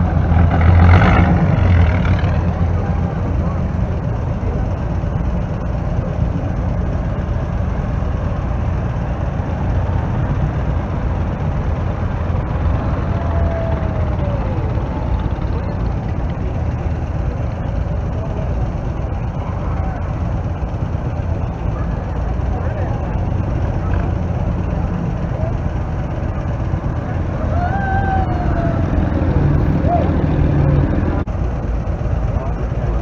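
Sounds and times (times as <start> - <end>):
low rumble of vehicle noise: 0.0 - 33.0.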